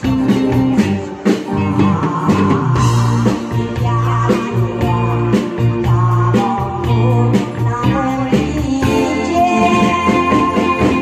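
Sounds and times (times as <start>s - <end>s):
electric guitar: 0.0s - 11.0s
keyboard: 0.0s - 11.0s
woman singing into a microphone: 0.0s - 11.0s.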